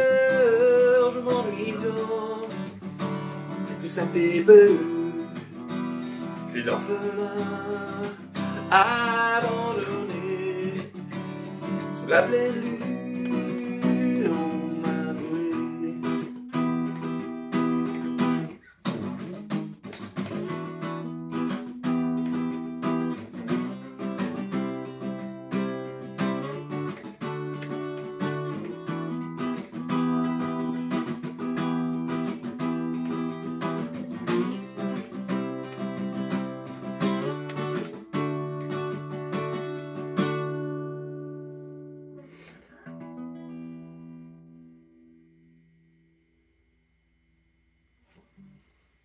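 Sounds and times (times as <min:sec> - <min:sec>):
acoustic guitar strummed funky rhythm: 0:00.0 - 0:45.6.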